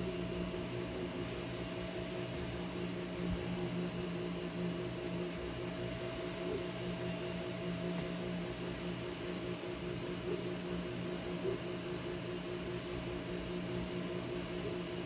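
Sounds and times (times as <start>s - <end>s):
printer motors and fans humming: 0.0s - 15.0s
pulsing whine: 0.0s - 15.0s.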